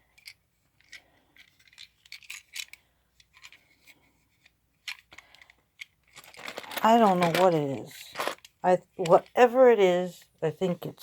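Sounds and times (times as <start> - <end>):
plastic pieces clicking: 0.0 - 9.4.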